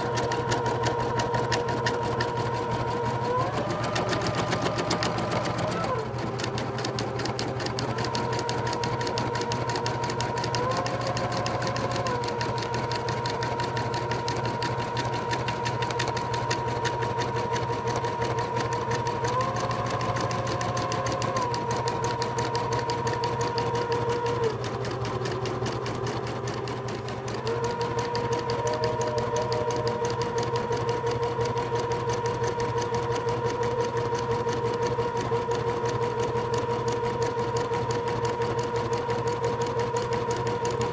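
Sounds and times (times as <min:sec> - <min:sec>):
embroidery machine stitching: 0:00.0 - 0:40.9.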